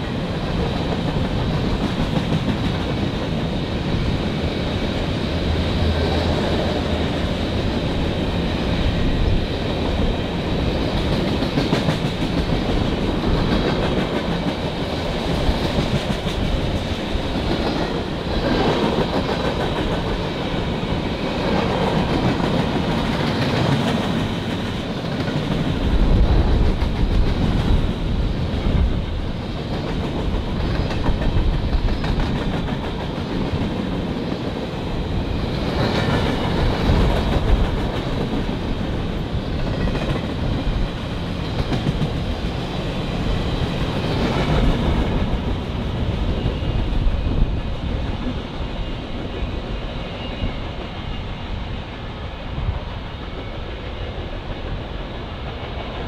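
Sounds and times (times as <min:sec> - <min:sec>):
train cars rumbling past: 0:00.0 - 0:56.0.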